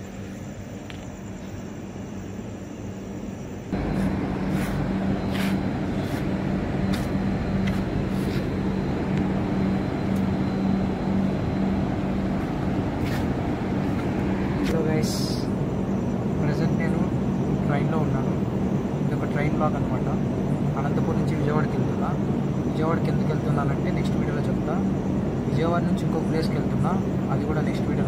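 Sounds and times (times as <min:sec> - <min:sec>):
train machinery hum: 0:00.0 - 0:28.0.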